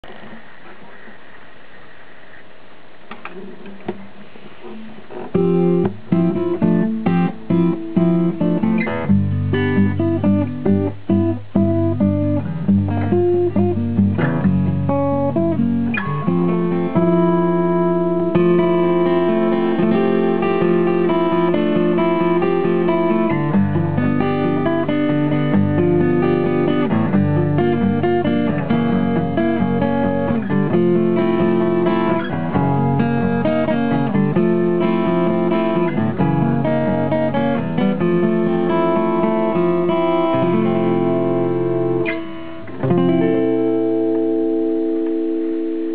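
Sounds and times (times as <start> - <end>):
acoustic guitar strummed and picked: 3.1 - 45.9.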